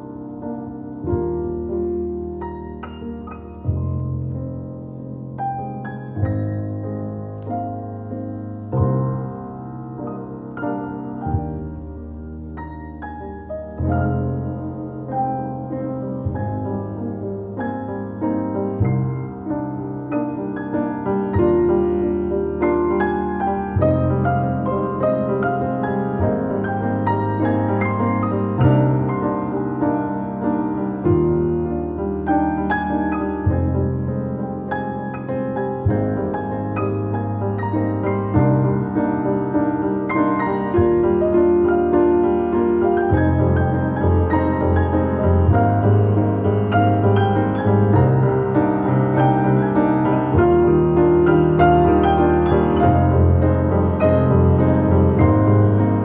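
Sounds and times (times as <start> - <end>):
grand piano chords: 0.0 - 56.0.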